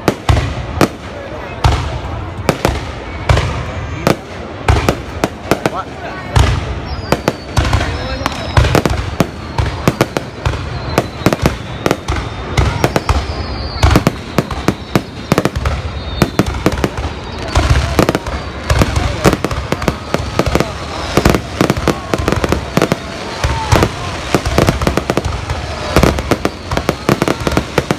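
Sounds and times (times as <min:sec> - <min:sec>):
fireworks bangs: 0:00.0 - 0:27.9.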